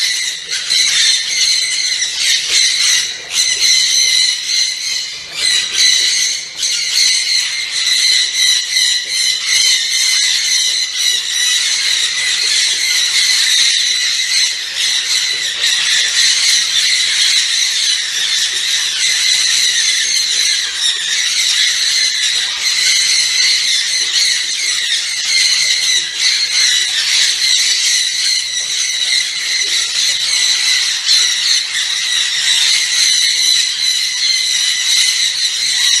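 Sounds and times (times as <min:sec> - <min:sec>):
parrots screeching: 0:00.0 - 0:36.0.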